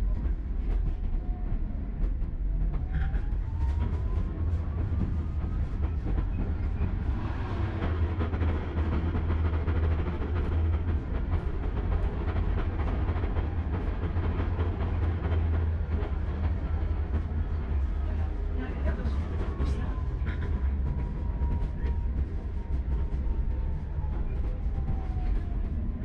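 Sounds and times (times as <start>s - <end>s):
tram rumble: 0.0s - 26.0s.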